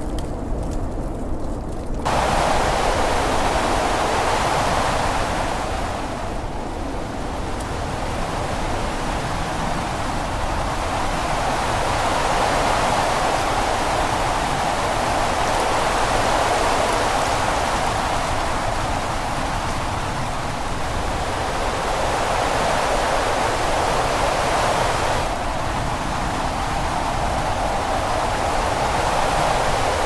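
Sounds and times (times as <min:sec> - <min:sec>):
snowstorm rushing noise: 0:02.0 - 0:30.0.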